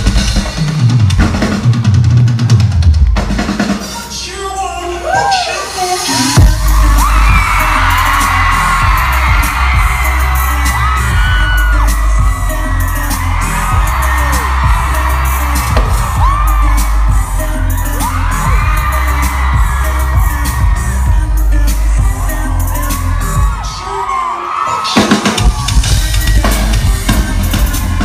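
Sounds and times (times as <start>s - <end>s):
rock drum solo: 0.0s - 4.2s, 6.3s - 23.6s, 24.9s - 28.0s
fans screaming: 2.4s - 28.0s.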